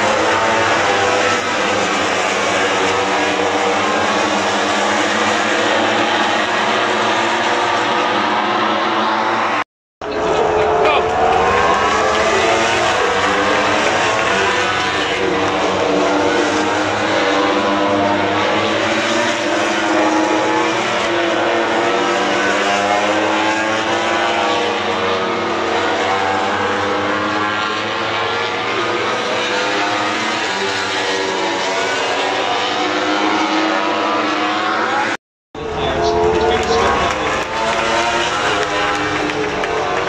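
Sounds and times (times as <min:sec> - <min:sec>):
racing motorcycles passing: 0:00.0 - 0:40.0.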